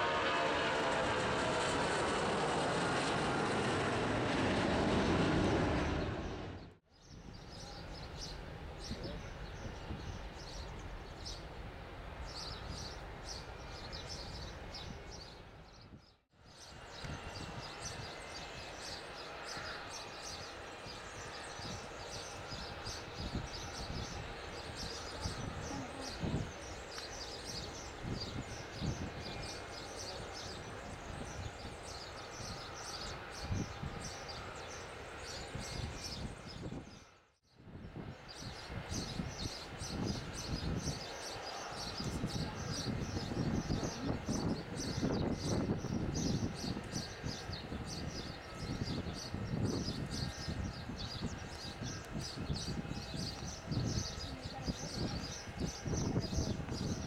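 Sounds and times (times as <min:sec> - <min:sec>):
distant airport rumble: 0:00.0 - 0:57.0
jet airliner engines climbing: 0:00.0 - 0:57.0.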